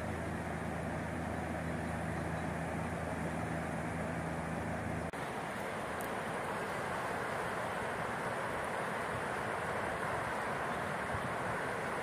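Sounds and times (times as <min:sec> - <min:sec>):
fast-flowing river rushing: 0:00.0 - 0:12.0
steady low hum: 0:00.0 - 0:12.0.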